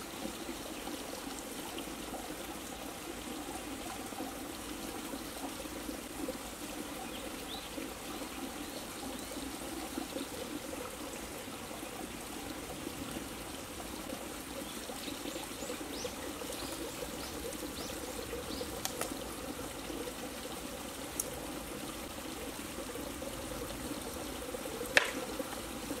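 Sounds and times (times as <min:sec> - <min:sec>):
trickling water: 0:00.0 - 0:26.0.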